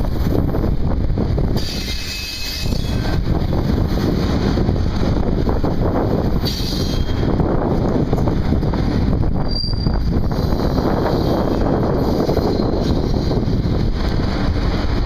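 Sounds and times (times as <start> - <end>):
freight train rumbling: 0.0 - 15.0
wind buffeting microphone: 0.0 - 15.0.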